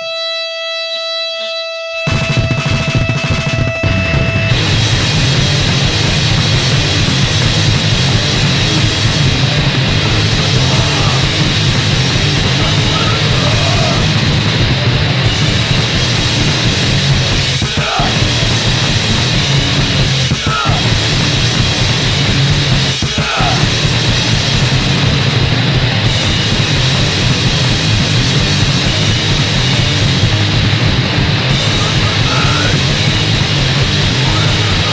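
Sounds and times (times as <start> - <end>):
punk band playing loud song: 2.0 - 34.9.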